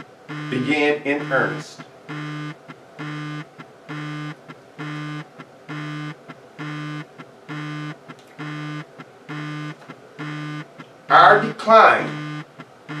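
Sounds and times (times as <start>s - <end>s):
low buzzing electronic beep: 0.0s - 11.2s, 12.0s - 13.0s.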